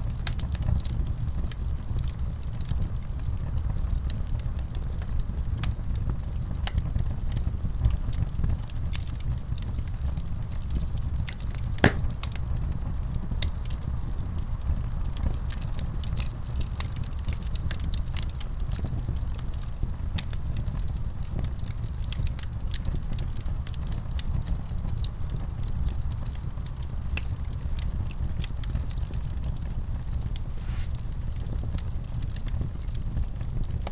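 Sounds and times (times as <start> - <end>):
low rumble of flames: 0.0 - 33.9
wood fire crackling: 0.1 - 33.9.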